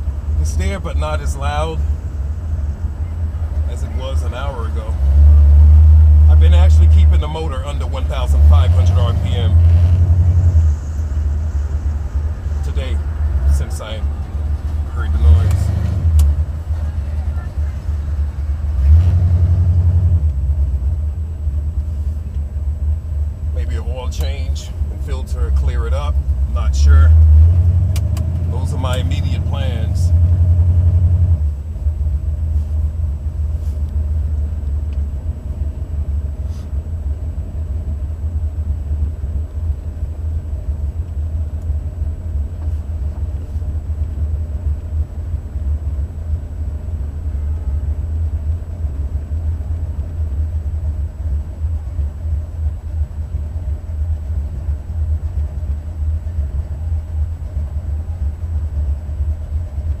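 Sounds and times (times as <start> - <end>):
car engine rumbling: 0.0 - 60.0.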